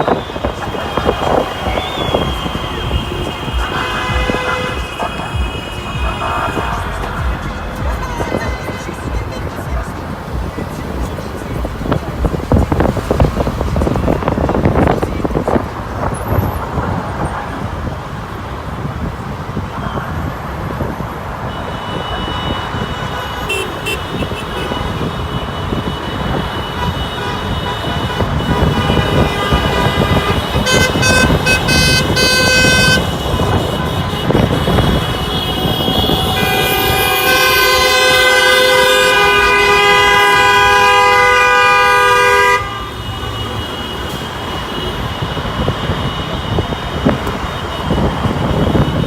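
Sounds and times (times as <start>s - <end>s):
car horns honking: 0.0s - 19.6s, 20.2s - 49.0s
traffic noise: 0.0s - 49.0s.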